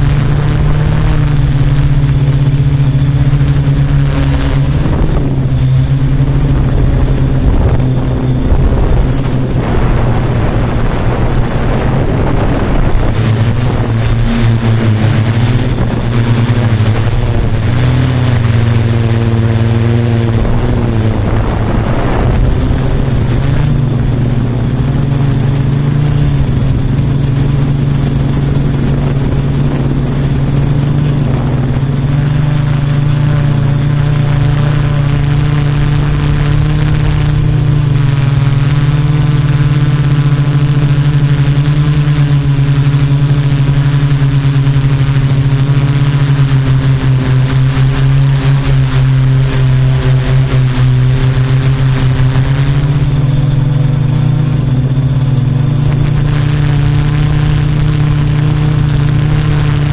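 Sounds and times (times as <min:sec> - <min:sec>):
drone propellers humming: 0:00.0 - 0:59.9.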